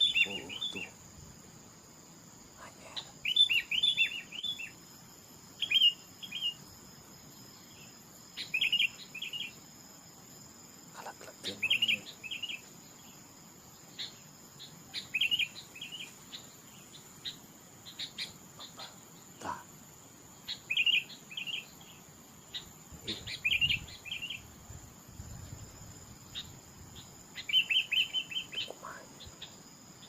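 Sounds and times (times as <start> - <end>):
birds chirping: 0.0 - 30.0
high insect whine: 0.0 - 30.0.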